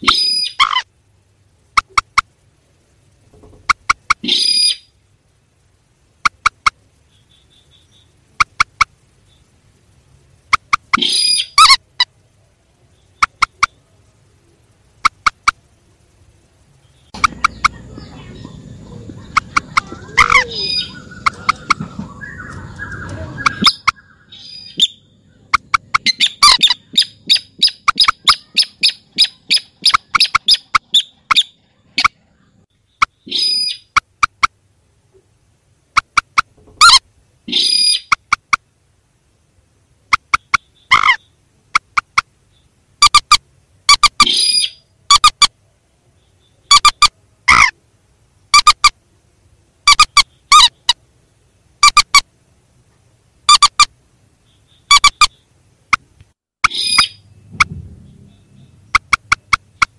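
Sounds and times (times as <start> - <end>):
rail bird calls: 0.0 - 0.9, 1.6 - 5.1, 6.1 - 34.6, 35.9 - 38.6, 40.0 - 47.8, 48.5 - 49.0, 49.8 - 51.2, 53.4 - 59.9
noise: 0.0 - 59.9.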